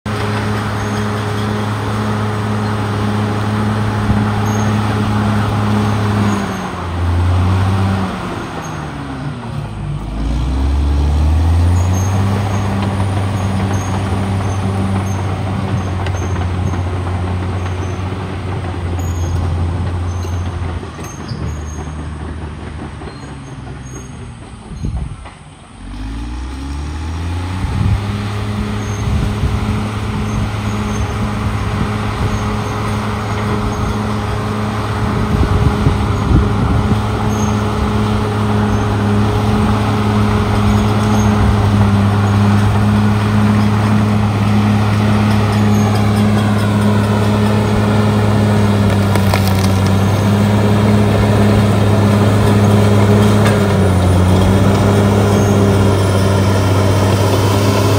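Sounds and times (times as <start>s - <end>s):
bulldozer diesel engine under load: 0.0s - 57.9s.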